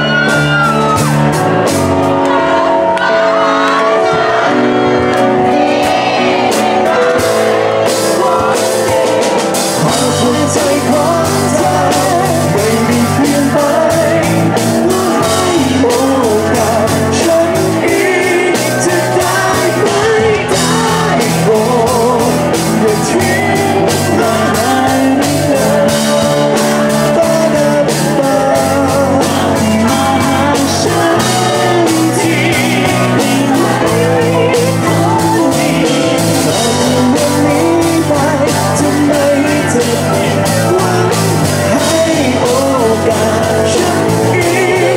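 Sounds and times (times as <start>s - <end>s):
drum kit: 0.0s - 44.9s
electric bass: 0.0s - 44.9s
guitar: 0.0s - 44.9s
keyboard: 0.0s - 44.9s
man singing: 3.2s - 44.9s.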